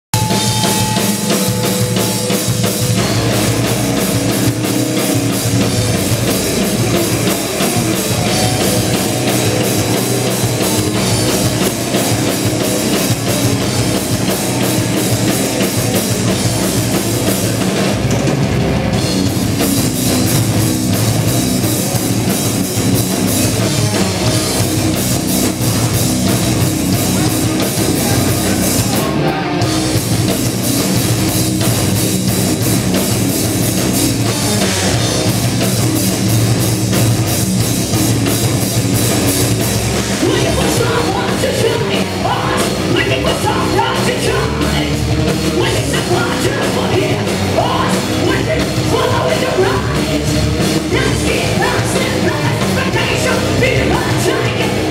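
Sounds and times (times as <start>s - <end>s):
bass guitar: 0.0s - 54.9s
distorted electric guitars: 0.0s - 54.9s
drum kit with cymbals: 0.1s - 54.9s.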